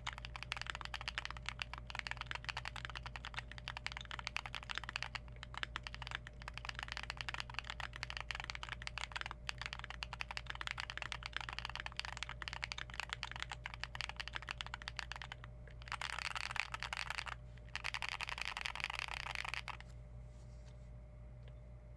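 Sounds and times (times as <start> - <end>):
keyboard typing clacks: 0.0 - 19.8.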